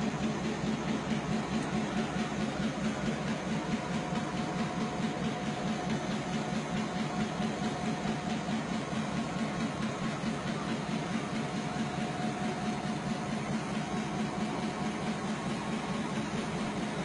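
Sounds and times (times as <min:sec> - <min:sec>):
locomotive engine throbbing: 0:00.0 - 0:17.0.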